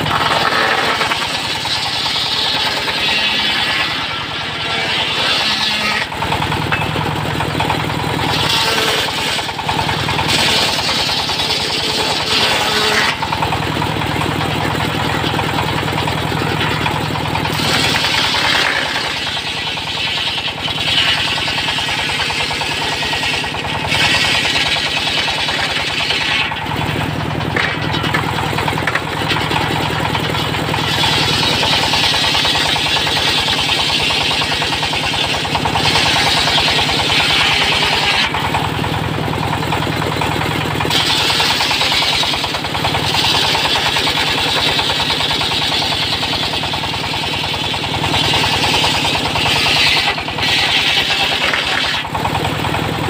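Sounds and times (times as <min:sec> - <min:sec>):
circular saw cutting logs: 0:00.0 - 0:53.0
diesel engine beat: 0:00.0 - 0:53.0.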